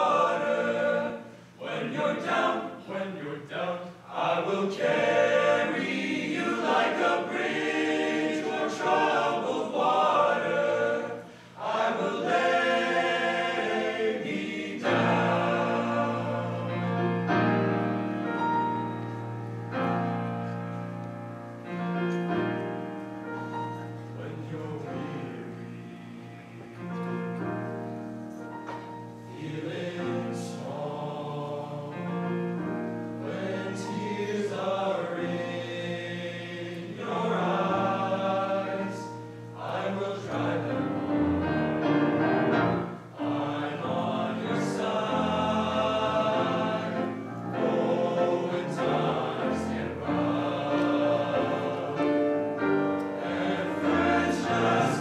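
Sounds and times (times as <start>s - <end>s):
men's choir singing in parts: 0.0s - 19.9s, 22.2s - 55.0s.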